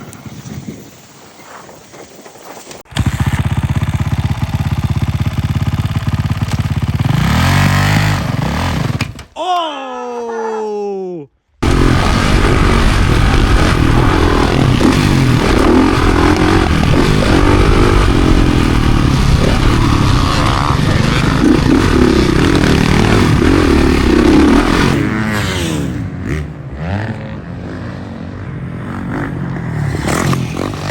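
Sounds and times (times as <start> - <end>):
motocross bike engine revving: 2.9 - 9.2, 11.6 - 30.9.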